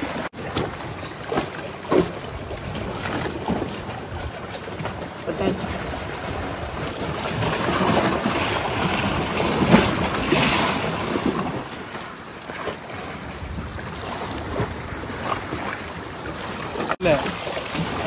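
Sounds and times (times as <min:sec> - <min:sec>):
sea waves washing against rocks: 0:00.0 - 0:18.0.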